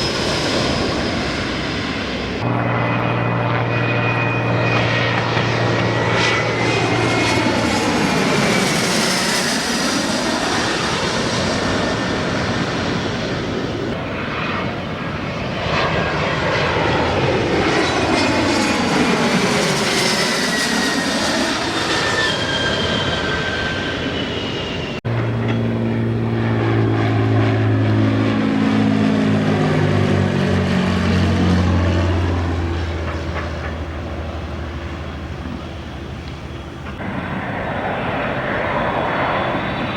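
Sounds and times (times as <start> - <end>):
deep aircraft engine drone: 0.0 - 39.9
jet engines whining past: 0.0 - 39.9.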